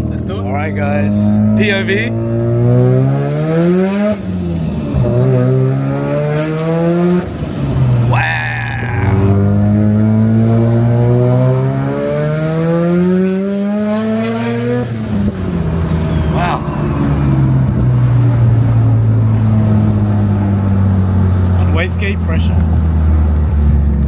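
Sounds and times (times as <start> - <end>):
rotary engine accelerating: 1.0 - 24.0.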